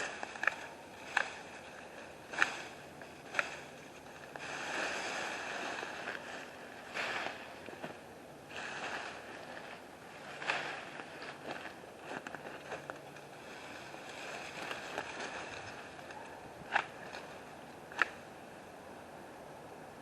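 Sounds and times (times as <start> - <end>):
branches snapping: 0.0 - 18.2
branches and leaves rustling: 0.0 - 19.8.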